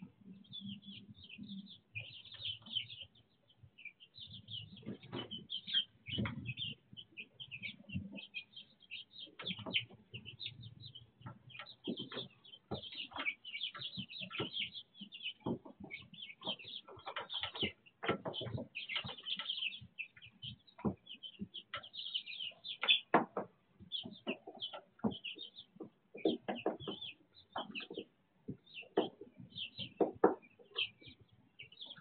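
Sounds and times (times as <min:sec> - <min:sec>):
chicks peeping: 0:00.0 - 0:32.0
chicks scratching in bedding: 0:00.0 - 0:32.0.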